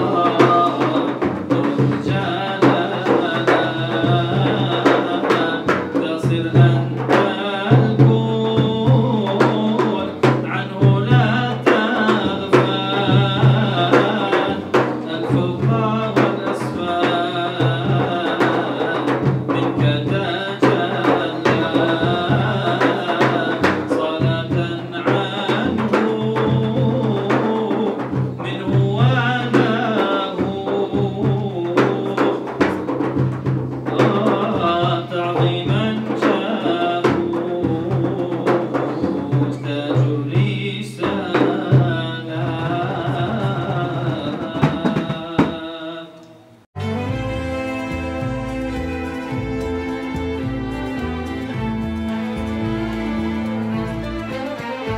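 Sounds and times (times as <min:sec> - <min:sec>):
man singing into microphone: 0:00.0 - 0:33.2, 0:33.8 - 0:46.5
steady drum accompaniment: 0:00.0 - 0:45.9, 0:46.8 - 0:54.9.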